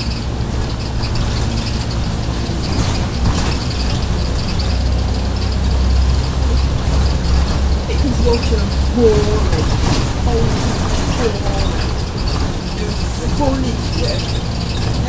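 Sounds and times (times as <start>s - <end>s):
bus diesel engine drone: 0.0s - 15.0s
road noise on wet road: 0.0s - 15.0s.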